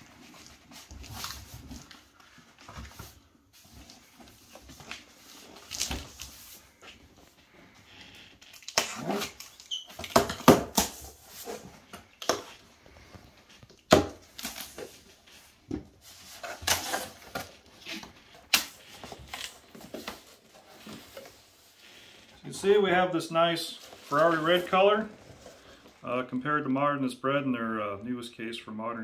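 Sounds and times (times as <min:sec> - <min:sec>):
paper packing rustling: 0:00.0 - 0:26.0.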